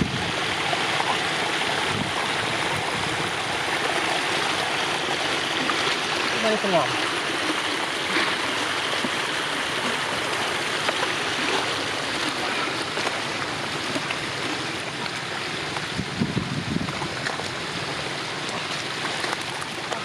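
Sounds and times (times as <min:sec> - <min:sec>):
floodwater rushing: 0:00.0 - 0:20.0
water splashes: 0:00.0 - 0:20.0.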